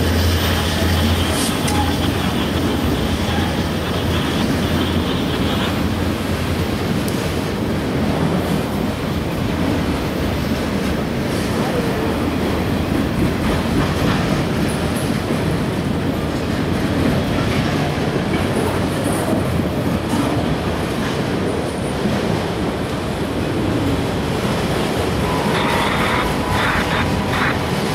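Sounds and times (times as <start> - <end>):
freight train wheels rumbling: 0.0 - 27.9.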